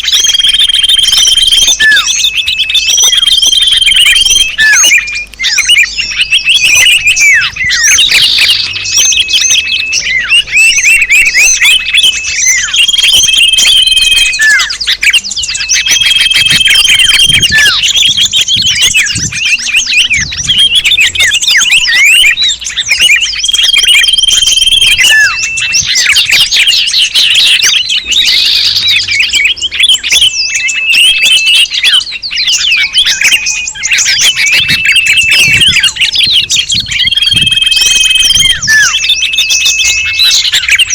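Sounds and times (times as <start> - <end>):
held bird whistles: 0.0 - 40.9
songbirds chirping and trilling: 0.0 - 40.9.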